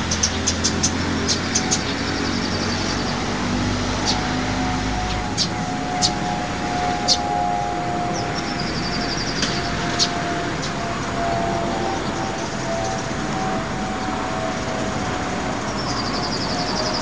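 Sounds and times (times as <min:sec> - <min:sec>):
distant city traffic: 0:00.0 - 0:17.0.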